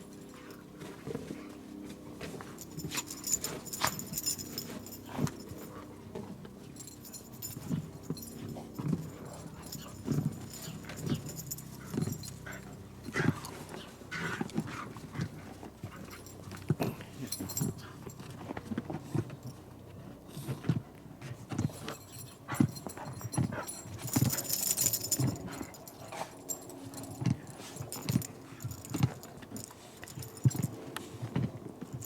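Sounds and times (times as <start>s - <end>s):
dogs moving about at play: 0.0s - 32.0s
dogs panting: 0.0s - 32.0s.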